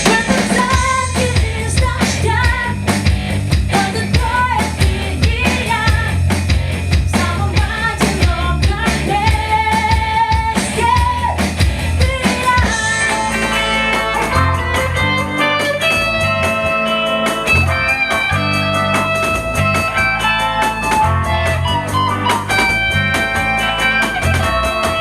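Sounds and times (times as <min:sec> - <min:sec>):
bass guitar: 0:00.0 - 0:25.0
melodic lead guitar: 0:00.0 - 0:25.0
steady drum beat: 0:00.0 - 0:25.0.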